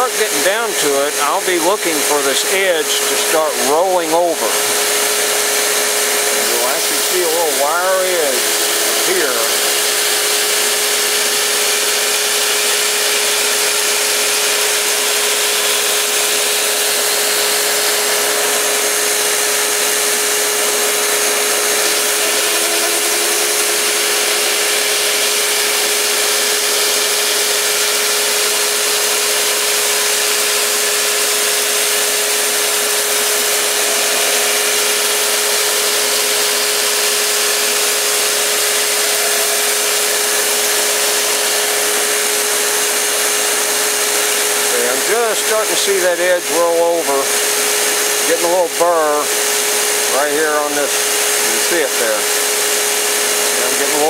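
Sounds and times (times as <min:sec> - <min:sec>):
belt grinder grinding knife: 0:00.0 - 0:54.0
motor hum: 0:00.0 - 0:54.0.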